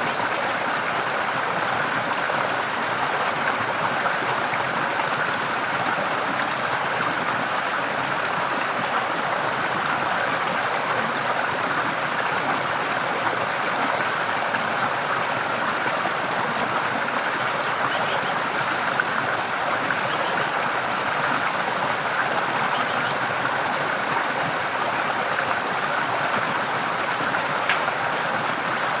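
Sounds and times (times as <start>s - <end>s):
stream flowing: 0.0s - 29.0s.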